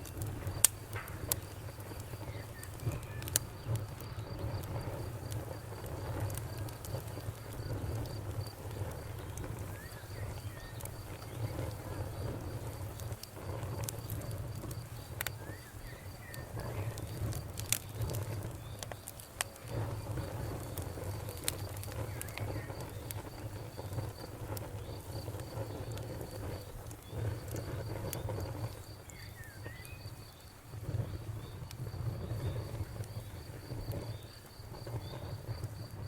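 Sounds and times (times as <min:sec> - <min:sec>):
campfire crackling and popping: 0:00.0 - 0:36.0
cricket chirping: 0:00.0 - 0:36.0.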